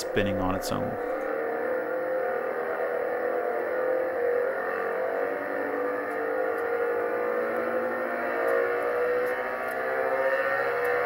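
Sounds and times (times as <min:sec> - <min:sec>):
hard drive motor whirring: 0:00.0 - 0:11.0.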